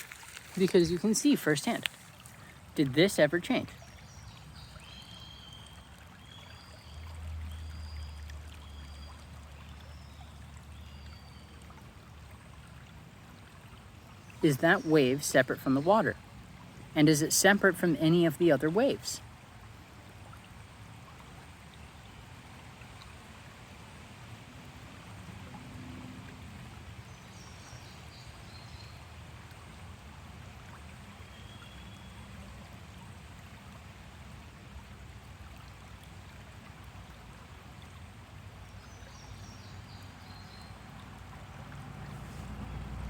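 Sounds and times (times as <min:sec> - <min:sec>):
water flowing: 0:00.0 - 0:43.0.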